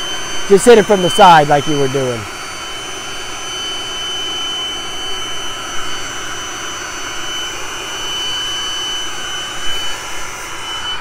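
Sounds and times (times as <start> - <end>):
leaf blower rushing air: 0.0 - 11.0
quadcopter high-pitched whine: 0.0 - 11.0.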